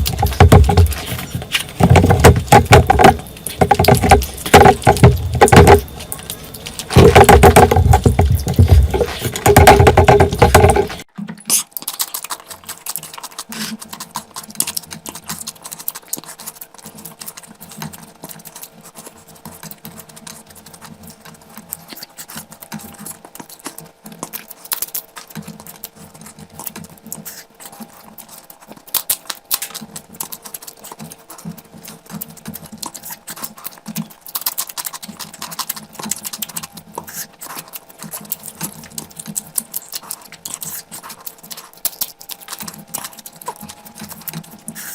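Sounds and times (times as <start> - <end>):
wet chewing and mouth smacking: 0.0 - 44.9.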